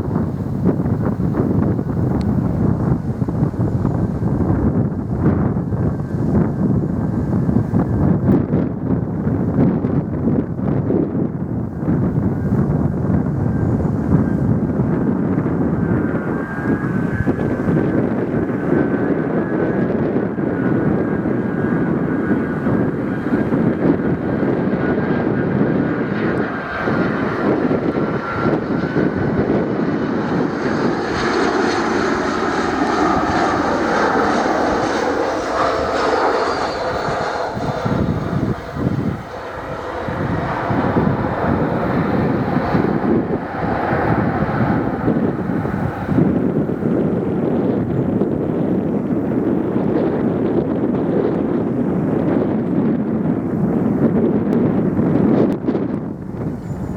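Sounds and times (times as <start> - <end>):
aircraft passing rush: 0.0 - 56.9
jet engines whining: 0.0 - 56.9
wind rumble on microphone: 0.0 - 56.9.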